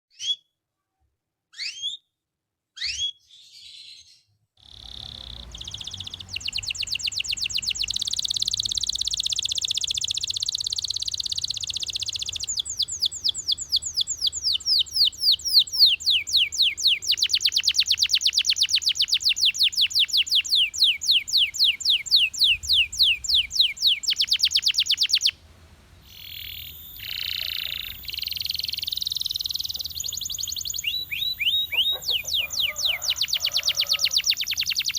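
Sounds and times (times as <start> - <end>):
canary trilling and chirping: 1.5 - 2.0, 2.8 - 25.4, 26.0 - 34.9
faint low hum: 4.6 - 34.9.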